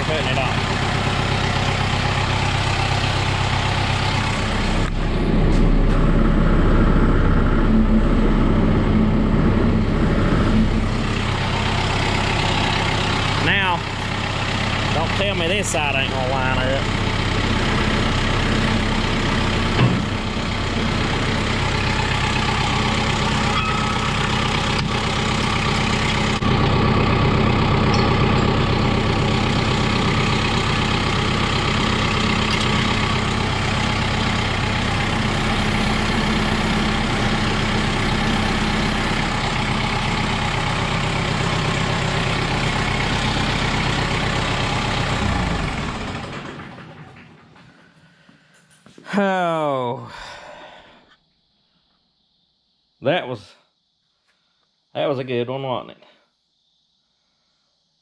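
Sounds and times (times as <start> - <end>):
tractor diesel engine running: 0.0 - 50.6.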